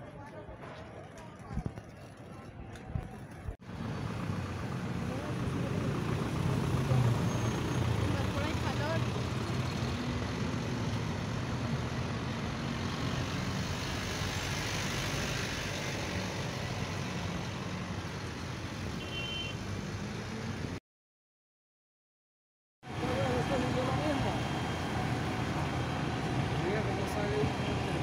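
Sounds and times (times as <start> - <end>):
vehicle engines running: 0.0 - 19.0, 22.9 - 28.0.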